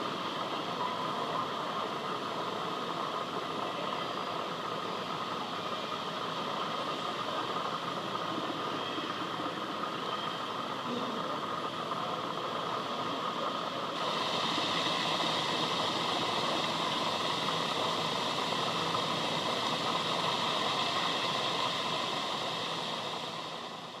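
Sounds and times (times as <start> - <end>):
tram running: 0.0 - 24.0.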